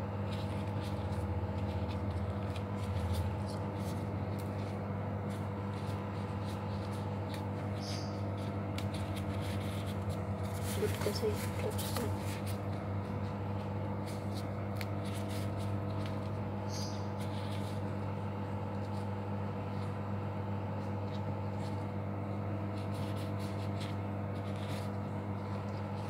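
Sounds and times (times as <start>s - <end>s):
plastic gloves crinkling: 0.0s - 26.0s
steady low hum: 0.0s - 26.0s.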